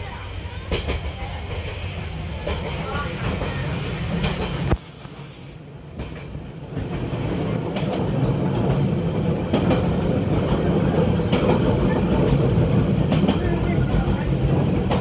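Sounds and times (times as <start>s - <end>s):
train wheels clicking over rail joints: 0.7s - 5.2s, 5.9s - 15.0s.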